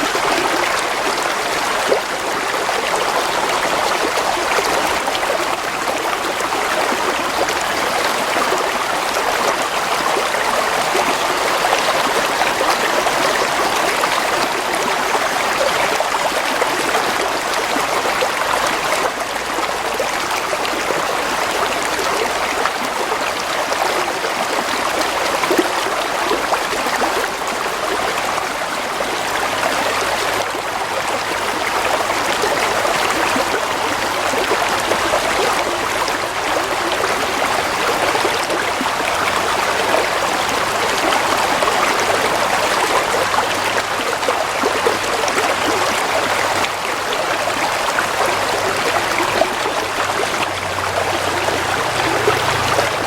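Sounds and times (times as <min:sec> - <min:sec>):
stream water flowing: 0:00.0 - 0:53.0.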